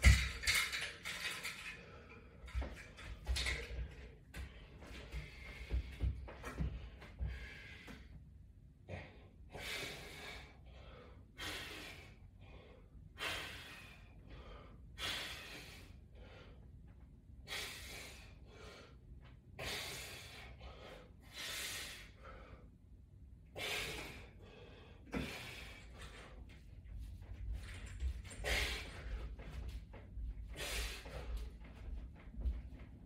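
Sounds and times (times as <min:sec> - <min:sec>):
man breathing hard: 0:01.5 - 0:16.8, 0:17.4 - 0:32.9.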